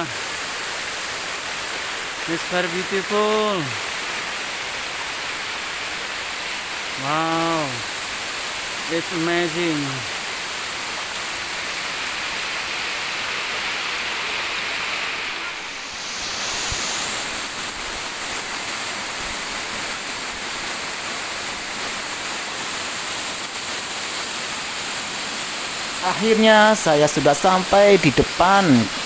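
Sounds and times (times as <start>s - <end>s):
waterfall splashing over rock: 0.0s - 29.0s.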